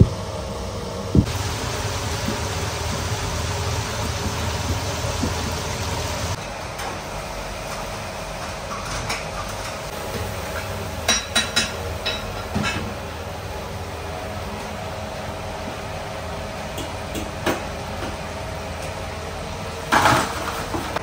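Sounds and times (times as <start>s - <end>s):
kitchen equipment humming: 0.0s - 21.0s.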